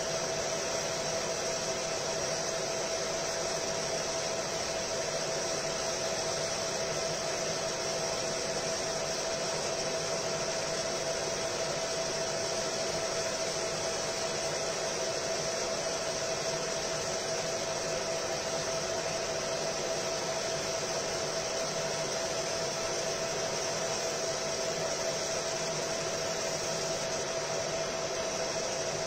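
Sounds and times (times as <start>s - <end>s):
laser marking machine whirring: 0.0s - 29.0s.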